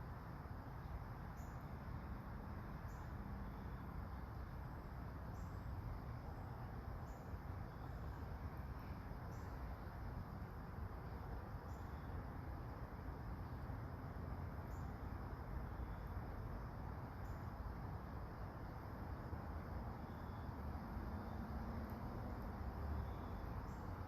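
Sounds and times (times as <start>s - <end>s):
soft rain hiss: 0.0s - 24.0s.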